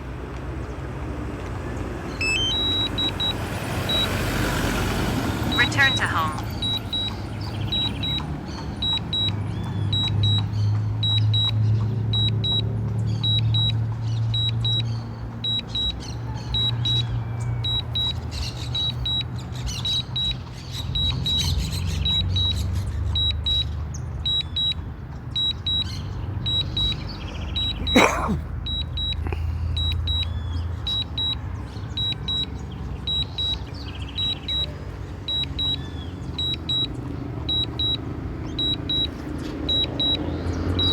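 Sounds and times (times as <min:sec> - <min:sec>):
remote controller beeping: 0:02.1 - 0:04.2, 0:05.5 - 0:11.6, 0:12.2 - 0:20.4, 0:21.0 - 0:24.8, 0:25.4 - 0:28.0, 0:28.7 - 0:40.9.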